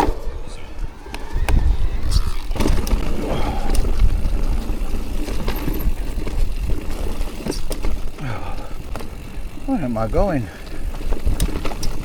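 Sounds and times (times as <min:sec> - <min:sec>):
low rumble of riding noise: 0:00.2 - 0:12.0
bike knocking and rattling: 0:01.1 - 0:12.0.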